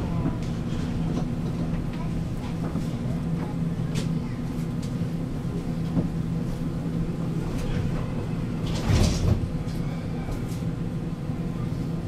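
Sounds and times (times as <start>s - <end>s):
tram drive hum: 0.0s - 12.0s.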